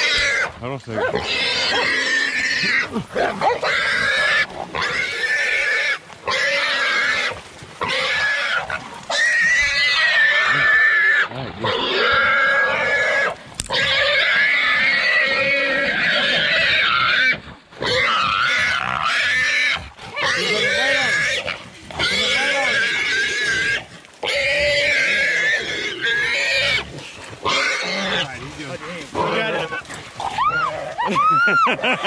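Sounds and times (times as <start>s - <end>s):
wild hog squealing: 0.0s - 32.0s.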